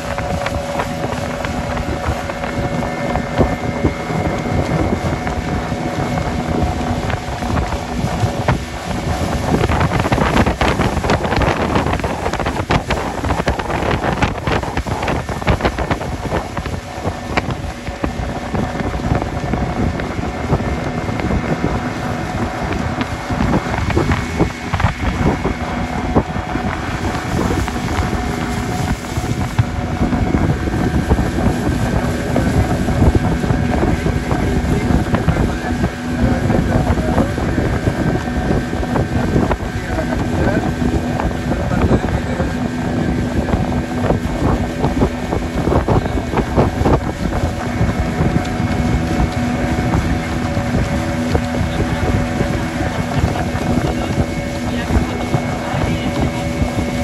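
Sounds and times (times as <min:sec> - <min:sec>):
motorboat engine running: 0:00.0 - 0:57.0
wind noise on microphone: 0:00.0 - 0:57.0.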